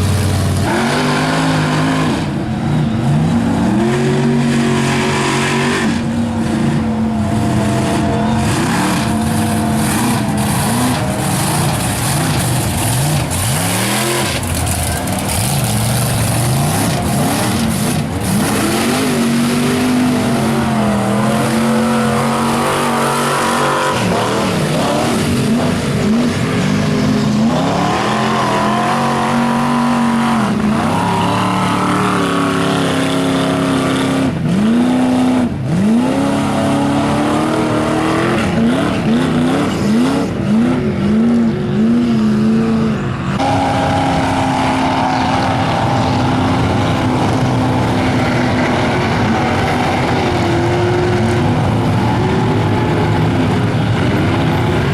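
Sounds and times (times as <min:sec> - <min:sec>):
truck engine revving hard: 0:00.0 - 0:54.9.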